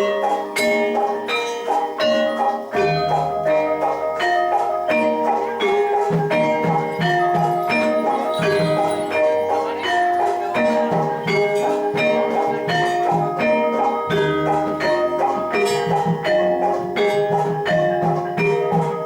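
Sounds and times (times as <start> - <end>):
metallophones playing a ringing melody: 0.0 - 19.0
struck percussion beat: 2.0 - 19.0.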